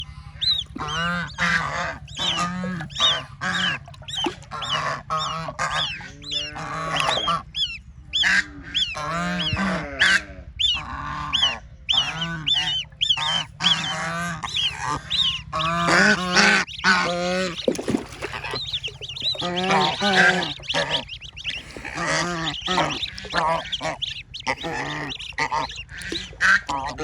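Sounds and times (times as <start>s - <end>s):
ducklings peeping: 0.0s - 27.0s
ducks honking: 0.0s - 27.0s.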